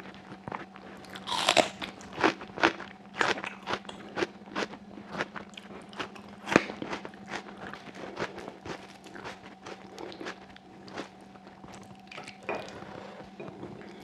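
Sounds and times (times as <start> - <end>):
close chewing with wet clicks: 0.3 - 12.5.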